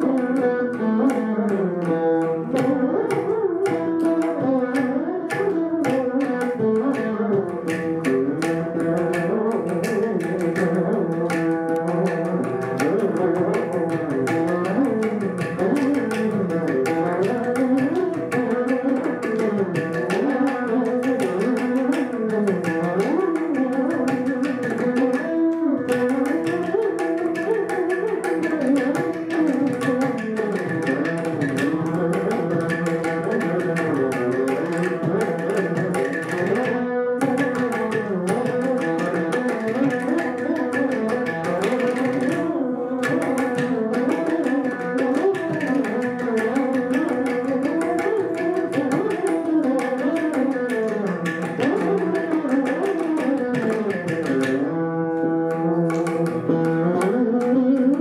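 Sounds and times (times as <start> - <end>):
veena duet with sliding notes: 0.0 - 58.0.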